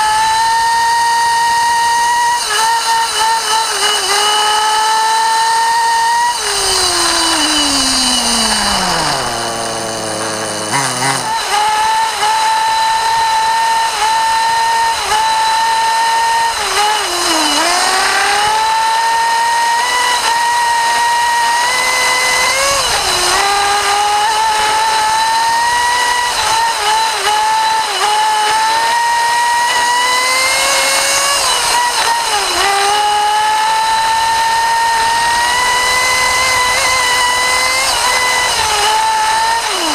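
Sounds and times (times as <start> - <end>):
small engine revving high: 0.0 - 39.9.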